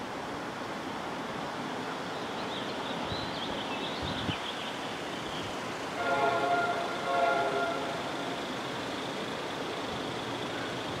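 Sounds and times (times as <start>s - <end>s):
steady wind: 0.0s - 11.0s.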